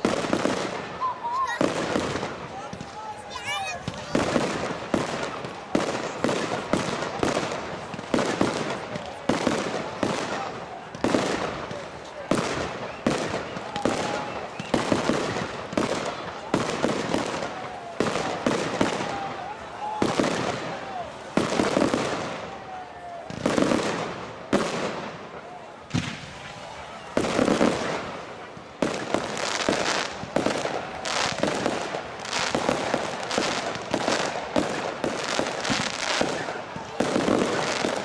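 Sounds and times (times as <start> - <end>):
fireworks bursting with echo: 0.0 - 38.0.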